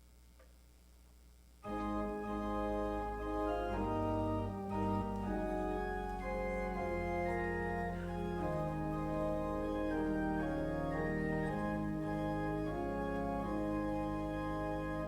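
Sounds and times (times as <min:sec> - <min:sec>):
organ chords: 0:01.6 - 0:15.0.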